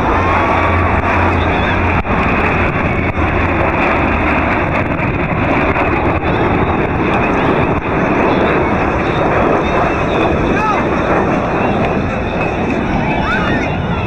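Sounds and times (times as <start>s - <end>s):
jet engines roaring overhead: 0.0s - 14.0s.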